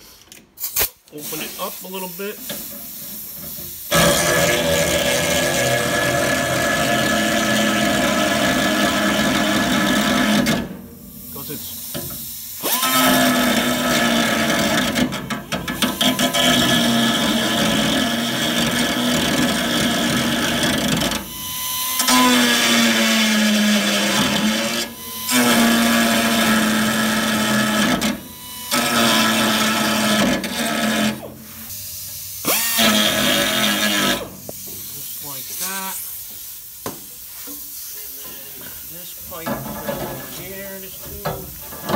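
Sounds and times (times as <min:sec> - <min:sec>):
pneumatic tool cutting steel: 0:00.6 - 0:37.8, 0:38.7 - 0:41.9.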